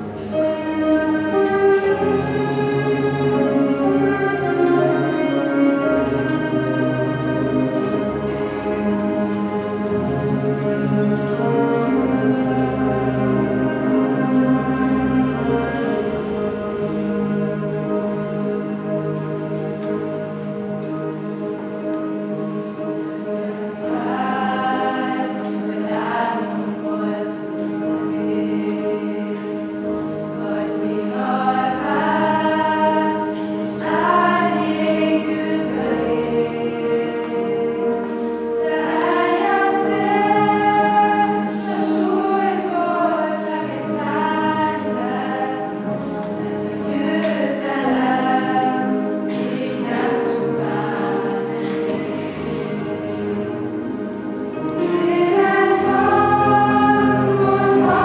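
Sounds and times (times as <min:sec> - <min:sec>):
choir singing: 0:00.0 - 0:58.0
held accompaniment notes: 0:00.0 - 0:58.0.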